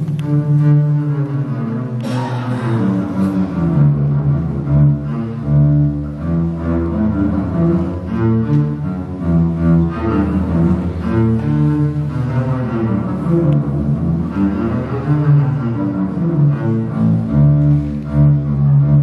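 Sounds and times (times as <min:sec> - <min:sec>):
bowed double bass melody: 0:00.0 - 0:19.0.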